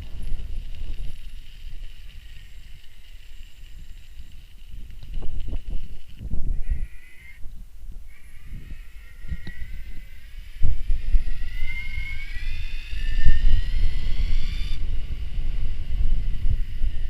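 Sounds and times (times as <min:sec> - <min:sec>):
electric bike motor whining: 0:00.0 - 0:07.4, 0:08.1 - 0:17.0
wind buffeting microphone: 0:00.0 - 0:17.0.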